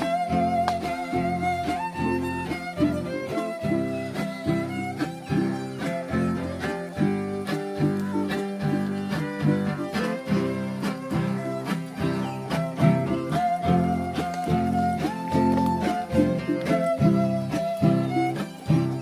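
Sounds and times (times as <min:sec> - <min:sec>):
strummed guitars: 0:00.0 - 0:19.0
violin melody: 0:00.0 - 0:19.0.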